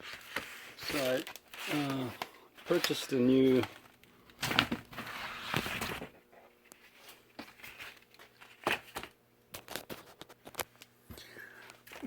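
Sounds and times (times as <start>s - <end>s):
air filter rustling and crinkling: 0.0s - 10.9s.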